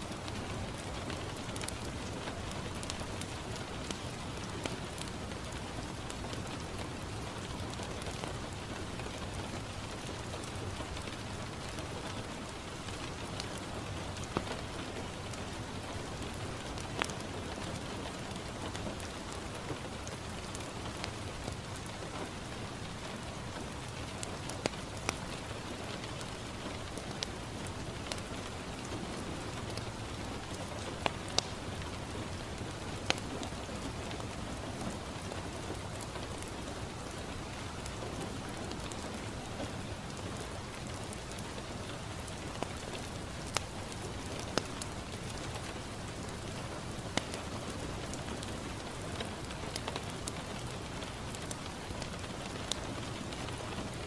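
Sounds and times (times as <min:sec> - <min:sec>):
fireplace crackling: 0:00.0 - 0:54.0
rain on a window: 0:00.0 - 0:54.0.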